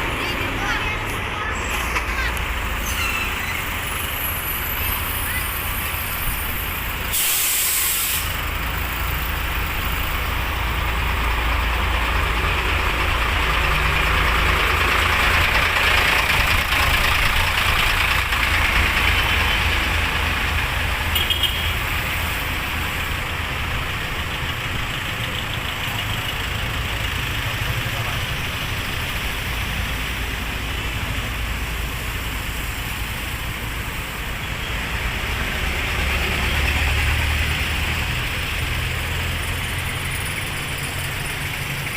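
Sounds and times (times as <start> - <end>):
low traffic rumble: 0.0 - 41.9
vehicle engines idling and passing: 0.0 - 41.9.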